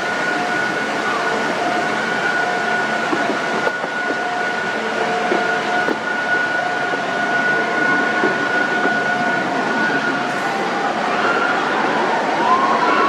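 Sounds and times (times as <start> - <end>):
high whine: 0.0 - 13.0
train rolling rumble: 0.0 - 13.0.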